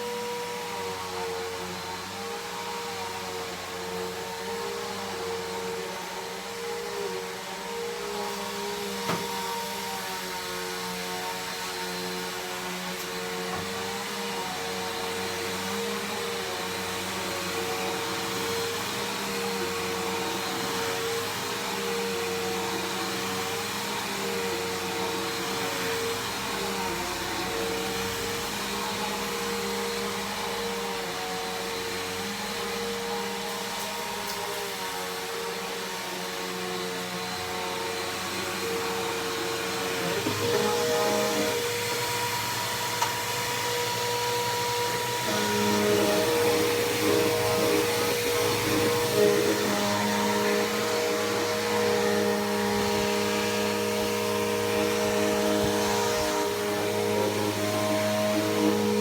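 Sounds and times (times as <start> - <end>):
upright vacuum cleaner running: 0.0 - 59.0.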